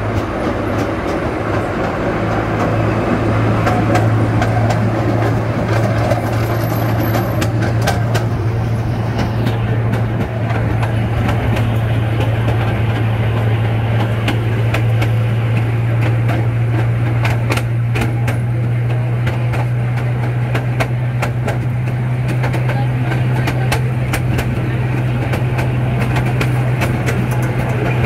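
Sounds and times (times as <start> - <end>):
wheels clacking on track: 0.0 - 28.0
wooden cars rattling: 0.0 - 28.0.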